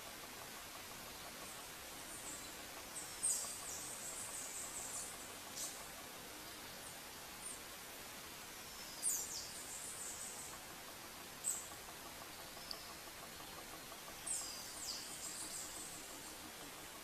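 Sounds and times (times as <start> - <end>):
outdoor hiss: 0.0 - 17.0
songbird calling: 1.1 - 7.6, 8.6 - 10.6, 11.4 - 17.0.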